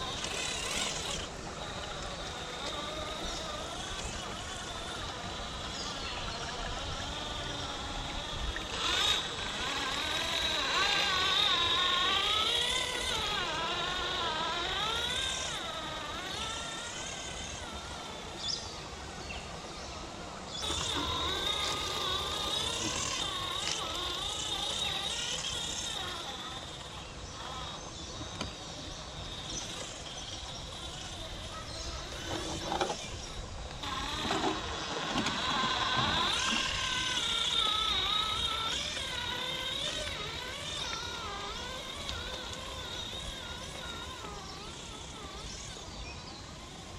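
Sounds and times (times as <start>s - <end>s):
electric motor whining: 0.0s - 46.9s.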